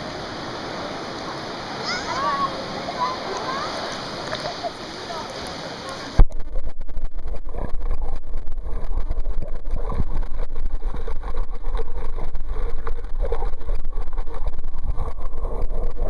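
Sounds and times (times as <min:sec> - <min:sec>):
underwater rumble of seawater: 0:00.0 - 0:16.0.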